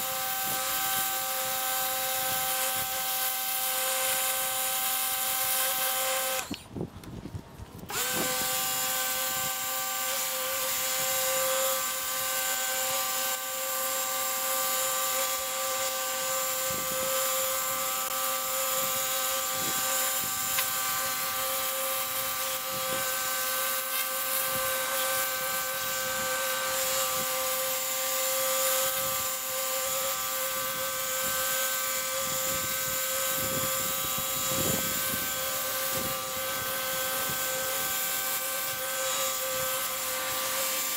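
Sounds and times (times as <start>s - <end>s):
pressure washer motor whine: 0.0s - 6.7s, 7.8s - 40.9s.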